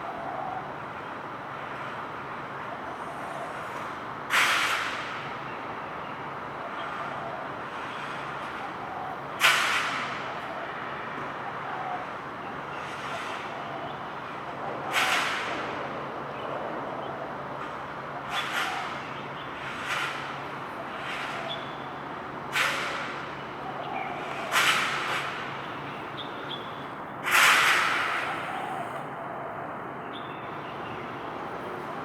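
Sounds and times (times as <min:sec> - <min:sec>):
road traffic hum: 0:00.0 - 0:32.0.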